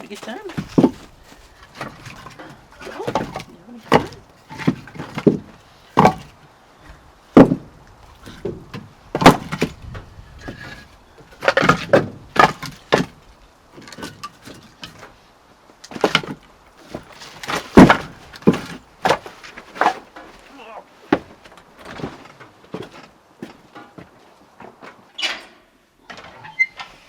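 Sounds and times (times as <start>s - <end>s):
firewood knocking: 0.0s - 15.0s, 15.9s - 20.4s, 21.1s - 24.1s.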